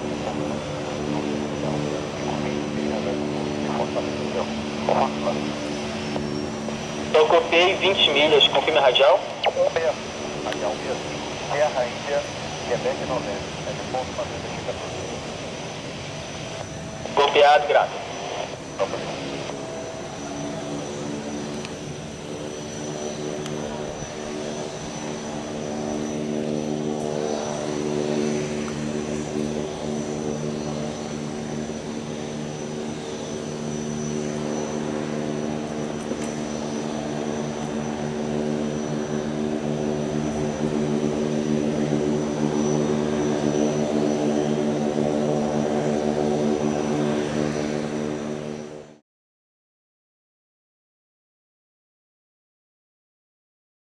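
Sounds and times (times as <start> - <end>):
high turbine whine: 0.0 - 49.0
propeller hum: 0.0 - 49.0.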